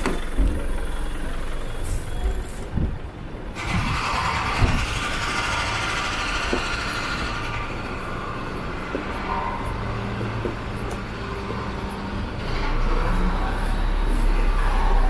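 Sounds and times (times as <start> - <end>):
street noise: 0.0 - 15.0
vehicle engine hum: 0.0 - 15.0.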